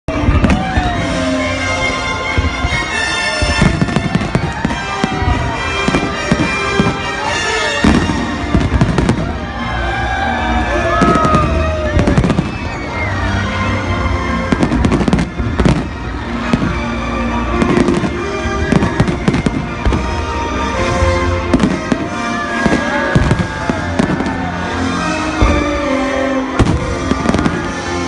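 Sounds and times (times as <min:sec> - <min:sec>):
fireworks bangs and crackles: 0:00.1 - 0:28.0
loud music playing: 0:00.1 - 0:28.0.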